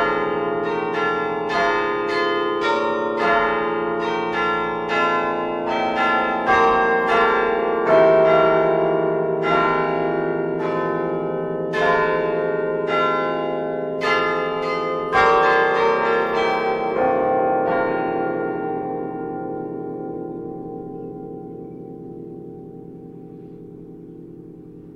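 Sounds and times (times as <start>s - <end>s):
church bells ringing: 0.0s - 24.9s.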